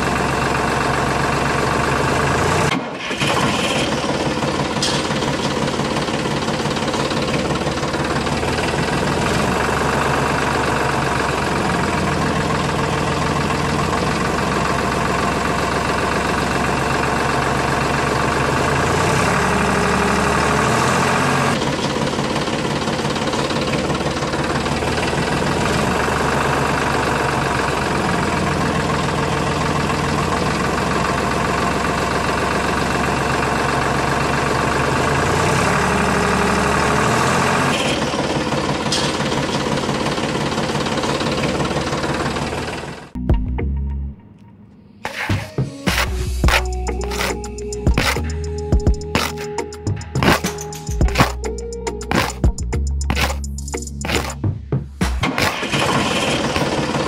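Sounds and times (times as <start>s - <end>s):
tractor engine knocking: 0.0s - 43.2s, 45.9s - 57.0s.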